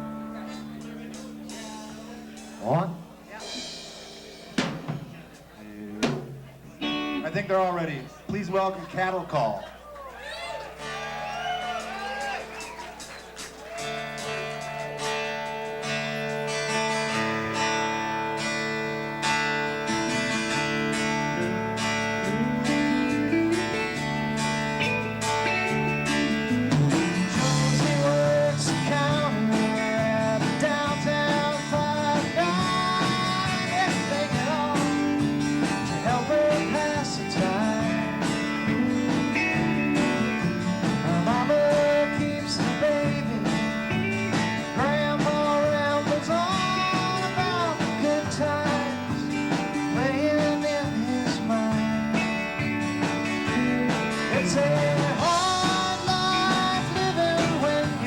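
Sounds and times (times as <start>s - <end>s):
guitars strumming and picking: 0.0s - 58.0s
live band playing country music: 0.0s - 58.0s.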